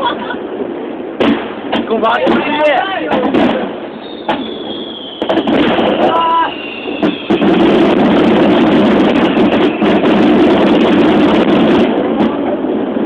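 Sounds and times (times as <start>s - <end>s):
fireworks barrage: 0.0s - 13.0s.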